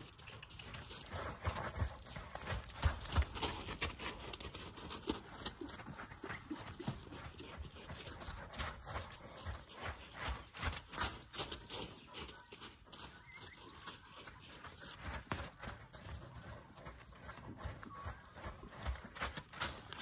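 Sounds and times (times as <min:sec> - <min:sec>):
horse hooves thudding on dirt: 0:00.0 - 0:20.0.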